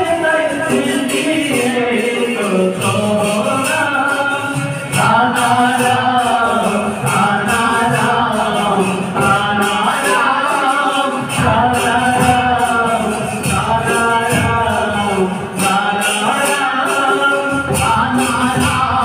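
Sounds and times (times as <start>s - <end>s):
hand drums: 0.0s - 19.0s
man singing: 0.0s - 19.0s.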